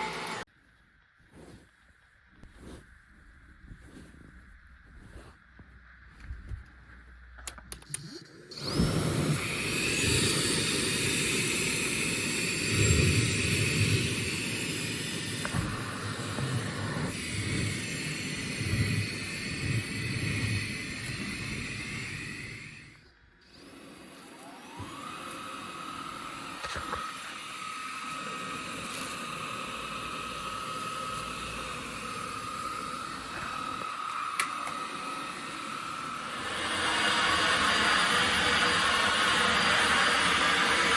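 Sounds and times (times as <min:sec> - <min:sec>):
vacuum cleaner motor whine: 0:00.0 - 0:00.5, 0:08.0 - 0:40.9.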